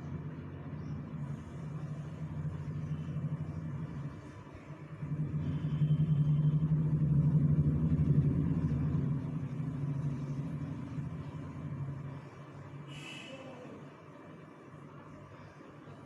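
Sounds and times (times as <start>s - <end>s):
low motor rumble: 0.0s - 16.0s.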